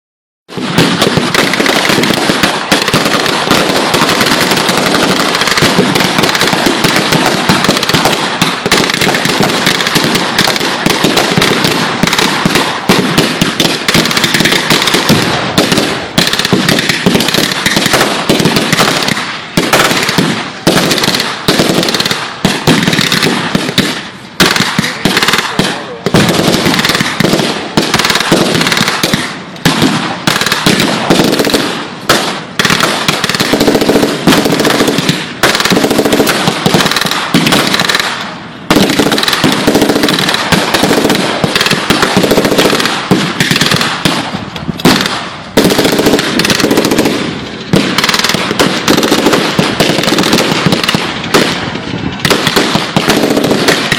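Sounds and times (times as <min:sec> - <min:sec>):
dense crackling of rapid bangs: 0:00.5 - 0:53.9.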